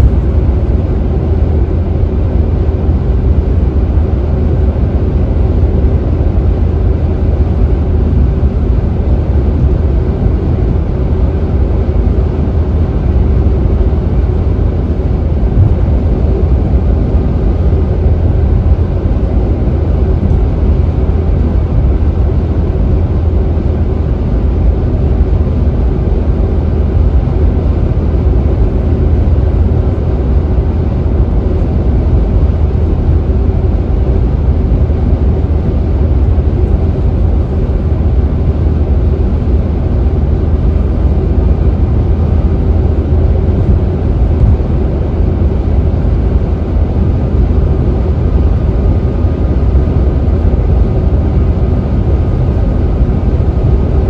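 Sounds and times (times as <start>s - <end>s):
car driving at speed: 0.0s - 54.0s.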